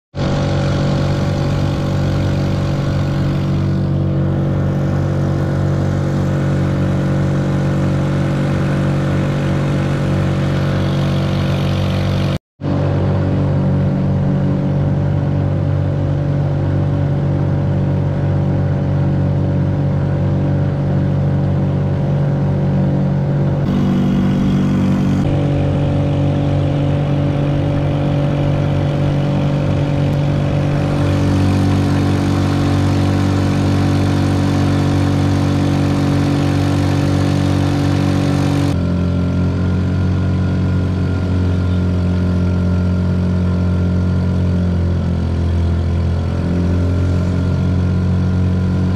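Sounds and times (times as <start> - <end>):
motorcycle engine running at high revs: 0.1 - 48.9.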